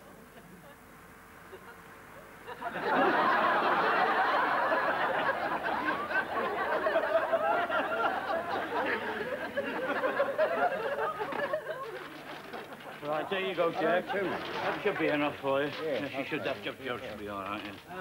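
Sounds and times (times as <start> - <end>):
audience laughter: 1.5 - 16.8.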